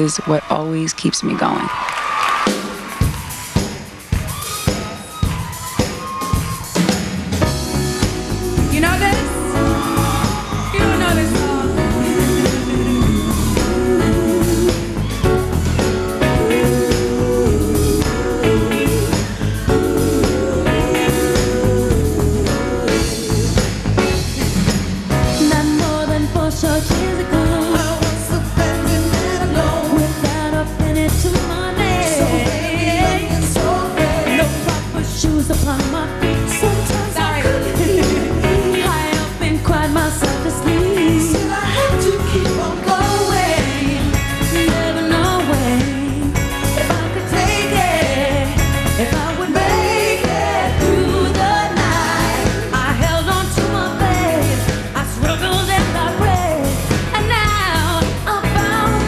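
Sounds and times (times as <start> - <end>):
band playing: 2.3 - 26.1, 31.3 - 59.0
steady drum beat: 2.4 - 59.0
woman singing pop: 8.0 - 15.2, 16.2 - 23.8, 25.3 - 59.0.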